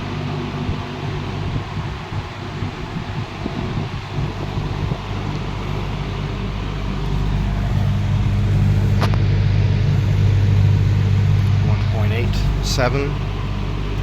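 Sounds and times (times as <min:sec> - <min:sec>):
box fan running: 0:00.0 - 0:14.0.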